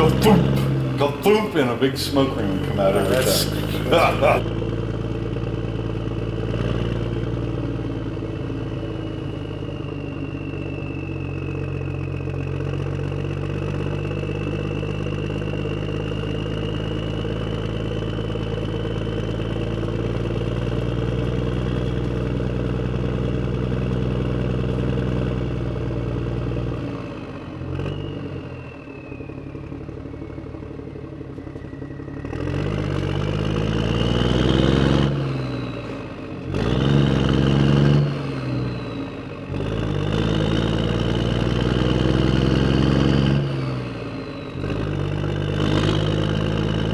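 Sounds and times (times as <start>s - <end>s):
engine running: 0.0s - 46.9s.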